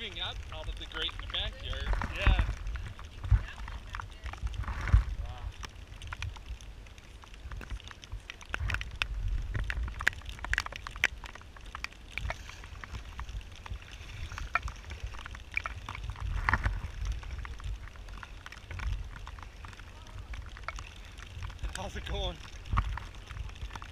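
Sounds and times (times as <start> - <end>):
heavy rain on floodwater: 0.0 - 23.9
low rumble: 0.0 - 23.9
raindrops ticking: 0.0 - 23.9.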